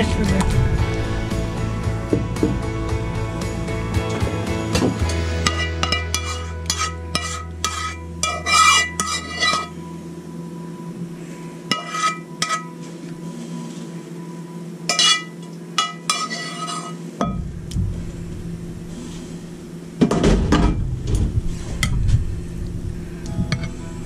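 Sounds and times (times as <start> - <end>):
low hum: 0.0 - 15.7, 17.2 - 24.0.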